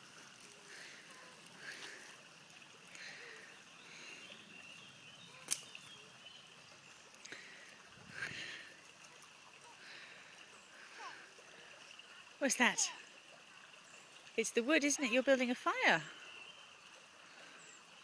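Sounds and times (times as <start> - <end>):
stream running: 0.0 - 18.0.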